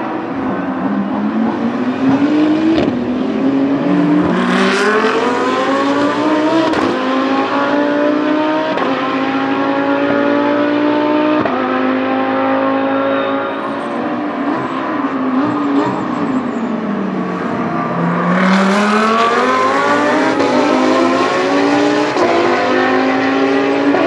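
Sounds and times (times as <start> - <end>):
race car engine accelerating: 0.4 - 24.0.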